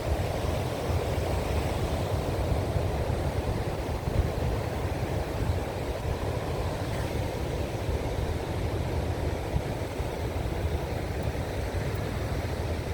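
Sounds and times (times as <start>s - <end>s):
ocean surf washing: 0.0s - 12.9s.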